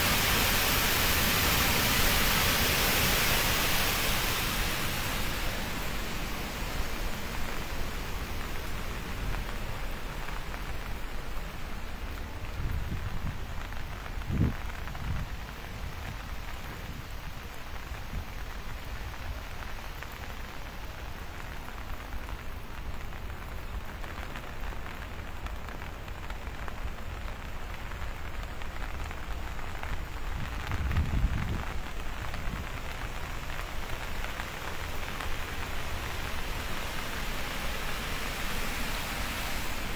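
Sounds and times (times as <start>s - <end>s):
rain: 0.0s - 39.9s
rushing water: 0.0s - 39.9s.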